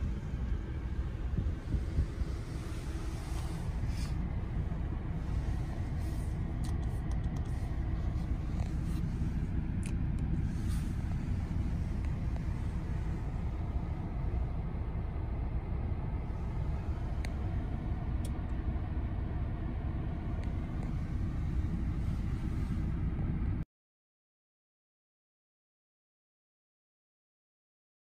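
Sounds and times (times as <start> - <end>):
diesel engine idling: 0.0 - 23.6.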